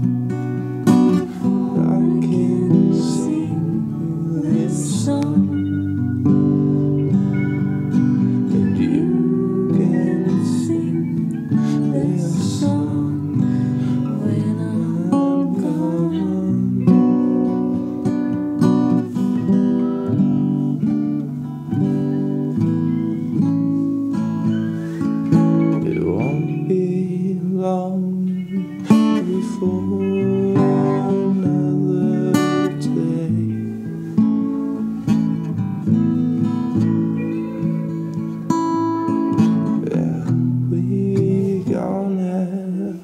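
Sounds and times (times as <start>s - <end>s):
acoustic guitar music: 0.0s - 43.0s.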